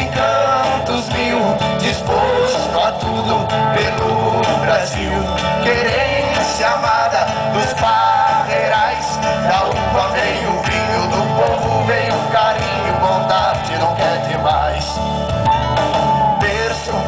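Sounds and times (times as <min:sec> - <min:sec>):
men singing into microphones: 0:00.0 - 0:15.2, 0:16.1 - 0:17.0
acoustic guitar: 0:00.0 - 0:17.0.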